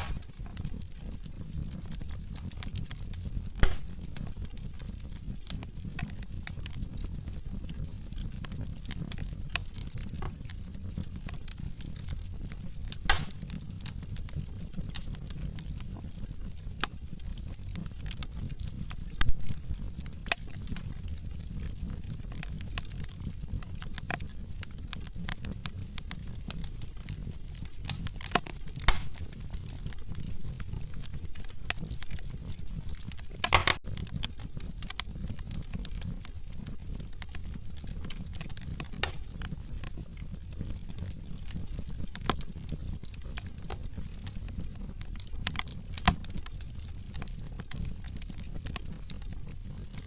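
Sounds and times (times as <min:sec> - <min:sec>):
logs popping: 0:00.0 - 0:07.5, 0:08.1 - 0:17.0, 0:17.6 - 0:50.0
wood fire crackling: 0:00.0 - 0:50.0.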